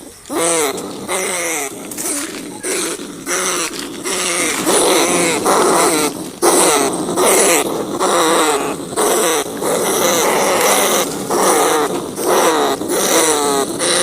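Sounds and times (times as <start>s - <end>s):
rats squealing: 0.0s - 14.0s.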